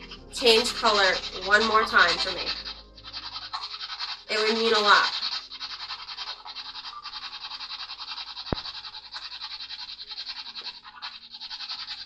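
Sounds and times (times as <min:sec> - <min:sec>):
fluttering radio static: 0:00.0 - 0:11.6.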